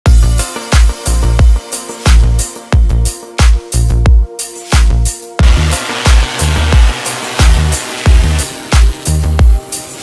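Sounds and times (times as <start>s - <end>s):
music with heavy bass beat: 0.1s - 10.0s.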